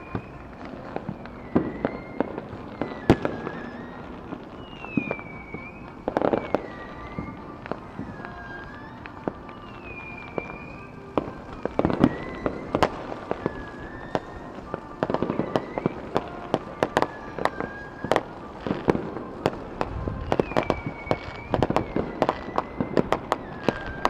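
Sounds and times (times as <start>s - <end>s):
distant fireworks pops and bangs: 0.0s - 24.0s.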